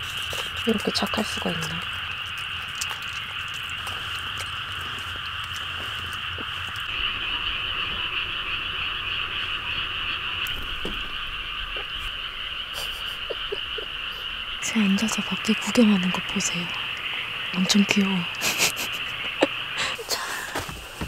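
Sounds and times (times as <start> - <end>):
frogs calling in chorus: 0.0 - 20.6.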